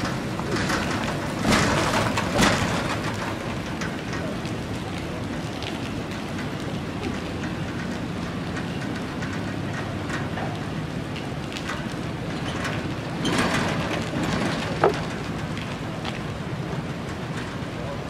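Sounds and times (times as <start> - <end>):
boat carriage rolling on rails: 0.0 - 18.0.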